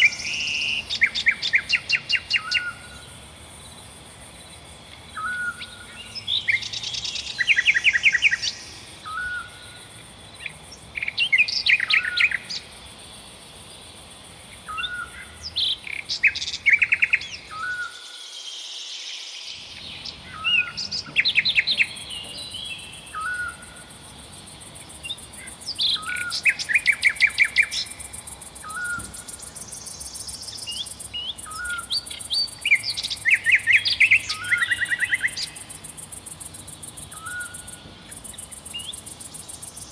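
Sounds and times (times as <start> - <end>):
faint high hiss: 0.0 - 39.9
songbirds chirping and trilling: 0.0 - 39.9.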